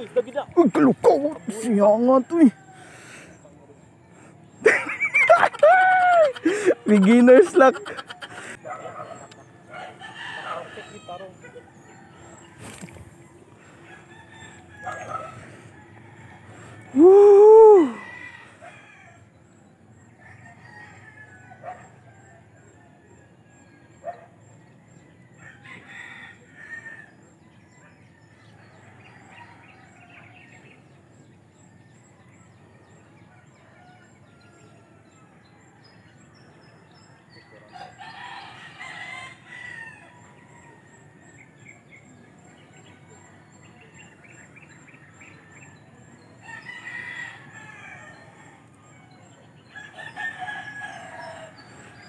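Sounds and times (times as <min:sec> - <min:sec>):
faint rooster crowing: 0:00.7 - 0:03.8, 0:05.5 - 0:52.0.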